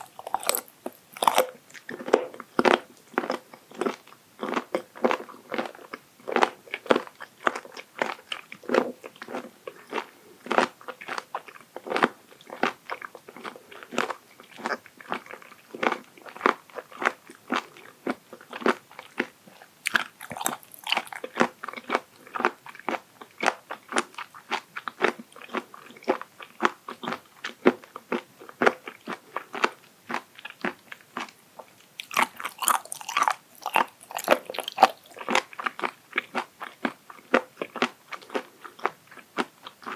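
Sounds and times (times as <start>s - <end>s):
crisp chewing crunches: 0.0s - 39.9s.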